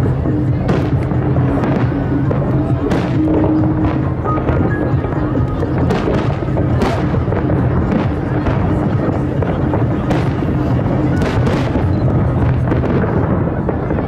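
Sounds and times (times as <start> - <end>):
continuous rumble: 0.0 - 14.0
fireworks bursting: 0.0 - 14.0
music with low tones: 0.0 - 14.0.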